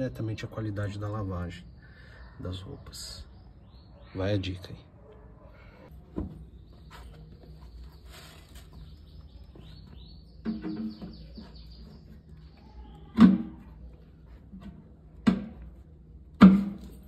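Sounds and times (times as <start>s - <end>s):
small birds chirping: 0.0s - 14.5s.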